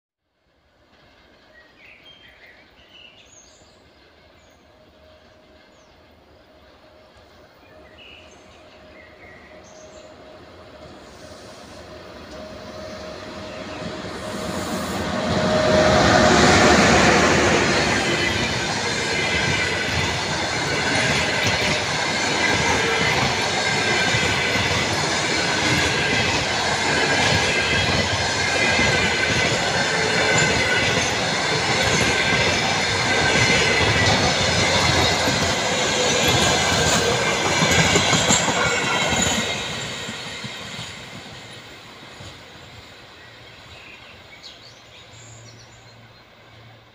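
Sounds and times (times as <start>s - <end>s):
electric locomotive passing: 0.4s - 46.9s.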